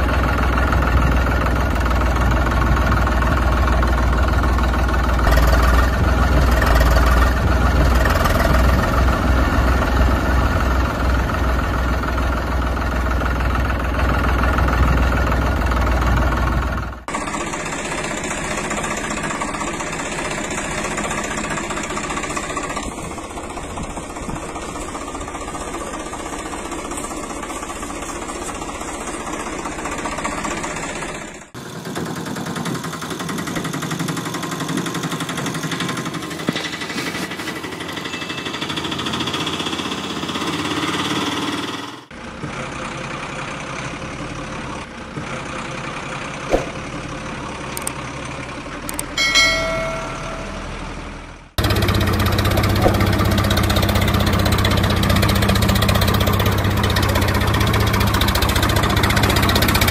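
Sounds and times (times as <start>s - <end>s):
tractor engine rumbling: 0.0s - 59.9s.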